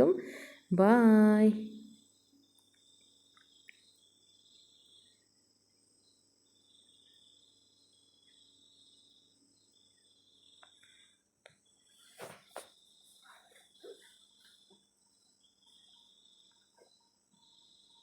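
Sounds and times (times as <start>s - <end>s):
faint insect chirping: 0.0s - 18.0s.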